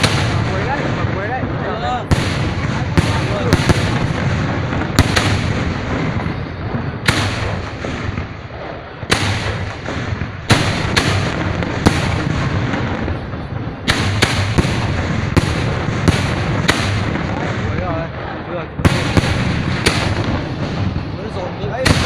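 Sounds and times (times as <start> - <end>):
firework shells bursting: 0.0 - 1.3, 2.0 - 22.0
fireworks crackle: 0.0 - 22.0.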